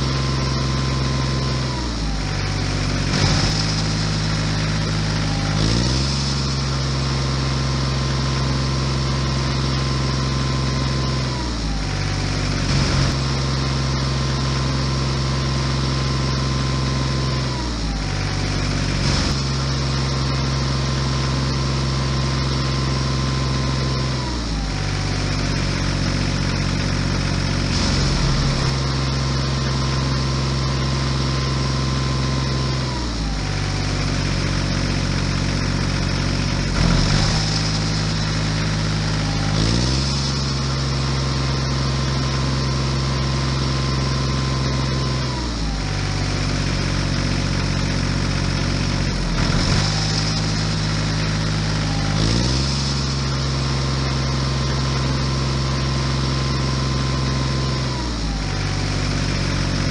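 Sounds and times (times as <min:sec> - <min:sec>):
tractor engine drone: 0:00.0 - 0:59.9.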